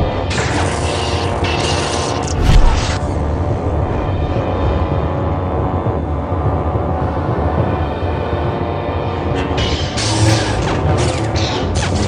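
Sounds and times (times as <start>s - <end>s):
dark film score drone: 0.0s - 12.0s.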